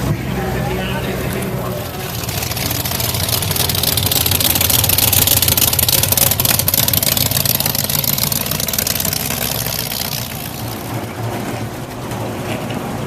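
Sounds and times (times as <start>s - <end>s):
car engine rumbling: 0.0s - 13.0s
hissy engine rattle: 0.0s - 13.0s.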